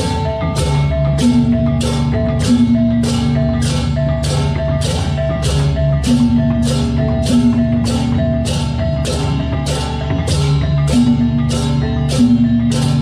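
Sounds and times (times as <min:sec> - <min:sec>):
gamelan playing: 0:00.0 - 0:13.0.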